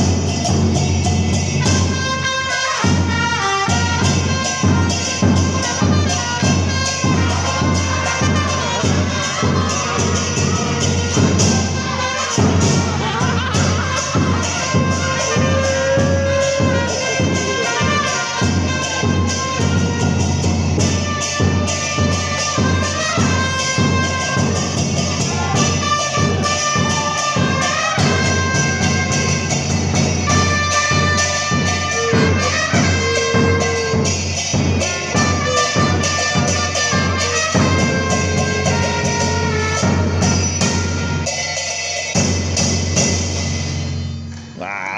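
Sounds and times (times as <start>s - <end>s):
trumpets playing a melody: 1.5s - 41.6s.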